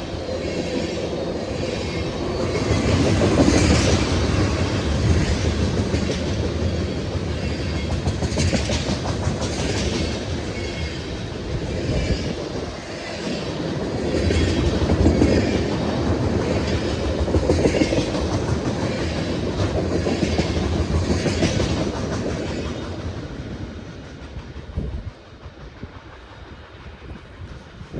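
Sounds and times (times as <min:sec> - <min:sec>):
train wheels clicking over joints: 0:00.1 - 0:27.9.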